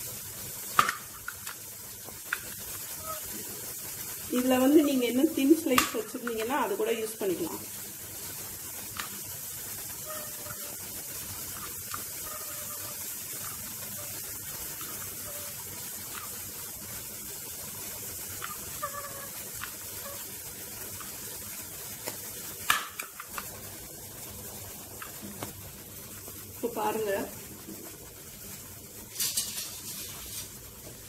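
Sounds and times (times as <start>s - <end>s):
water boiling in a pot: 0.0s - 31.0s.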